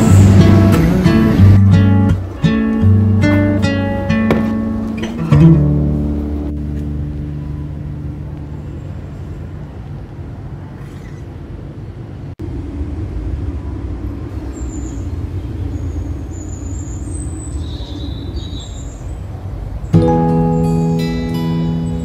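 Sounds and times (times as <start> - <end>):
low rumble of background noise: 0.0 - 22.0.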